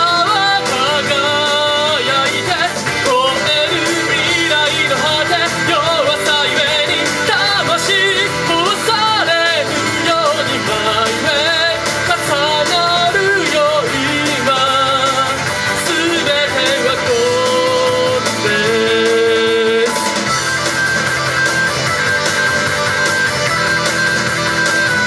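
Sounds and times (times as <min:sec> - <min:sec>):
person singing with vibrato: 0:00.0 - 0:20.5
rock band music: 0:00.0 - 0:25.0.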